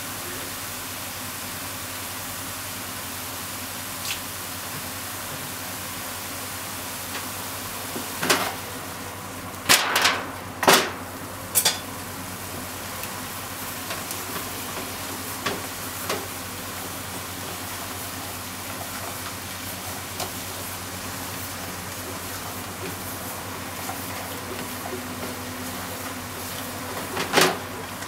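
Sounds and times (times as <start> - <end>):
vegetables sizzling in frying pan: 0.0 - 28.0.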